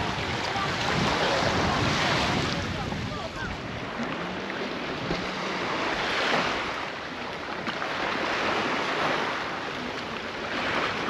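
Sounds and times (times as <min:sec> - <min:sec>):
sea waves washing onto beach: 0:00.0 - 0:11.0.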